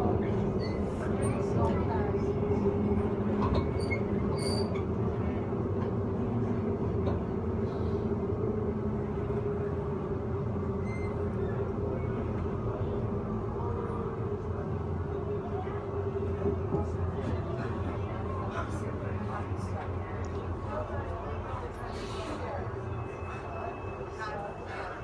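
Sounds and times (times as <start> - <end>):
constant train hum: 0.0 - 25.0
train wheels rumbling on rails: 0.0 - 25.0.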